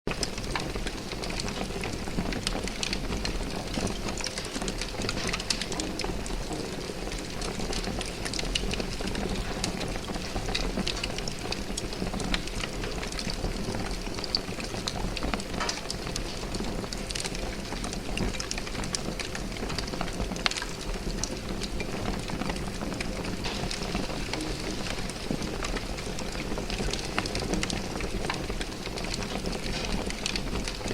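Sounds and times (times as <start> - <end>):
fire crackling and popping: 0.1 - 30.9
fire rumbling: 0.1 - 30.9.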